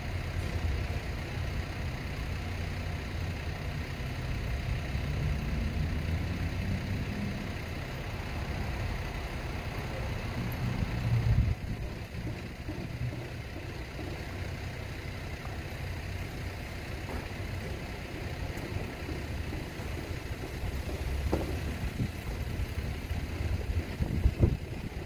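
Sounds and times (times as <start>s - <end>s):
urban outdoor rumble: 0.0s - 25.0s.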